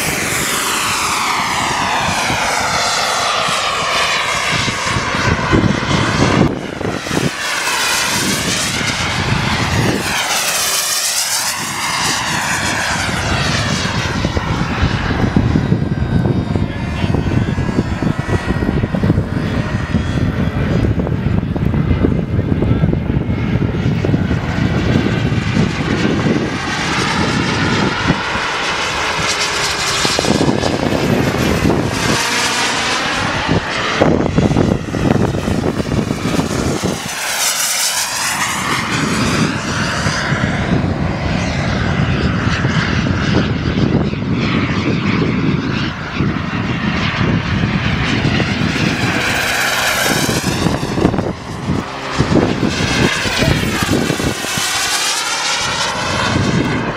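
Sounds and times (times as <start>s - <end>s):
model jet turbines flying past: 0.0s - 56.9s.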